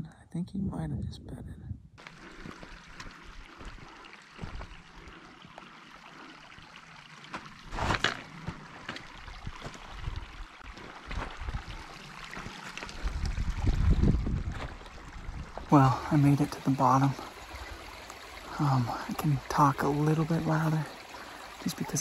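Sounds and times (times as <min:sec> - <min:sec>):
mountain stream running: 0:02.0 - 0:22.0.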